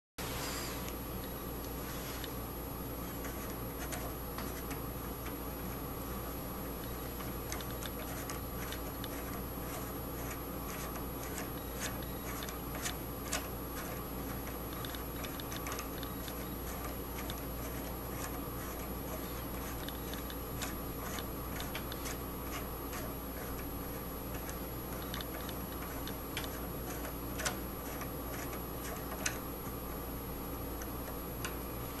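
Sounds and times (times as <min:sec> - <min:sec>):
steady low hum: 0:00.2 - 0:32.0.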